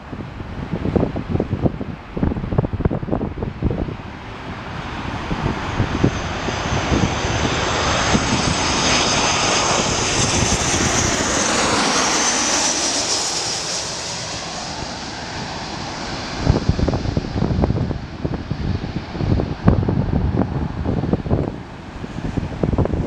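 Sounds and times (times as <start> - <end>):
jet engines at takeoff: 0.0 - 23.0
wind buffeting microphone: 0.0 - 23.0
high engine whine: 2.6 - 23.0.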